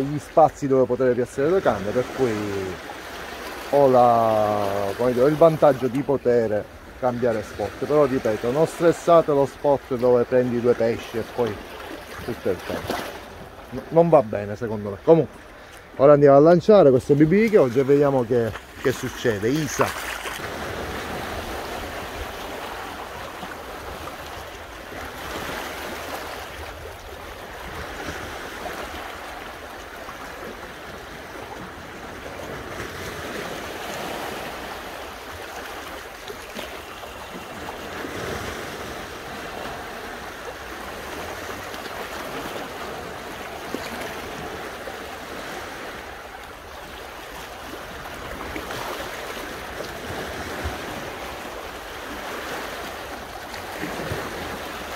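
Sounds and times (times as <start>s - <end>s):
sea waves on rocky shore: 0.0s - 54.9s.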